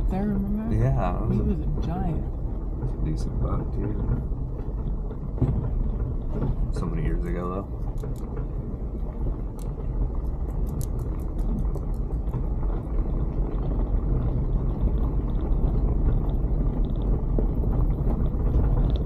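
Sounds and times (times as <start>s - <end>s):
engine and road rumble: 0.0s - 19.0s
light clicks and rattles: 2.1s - 19.0s.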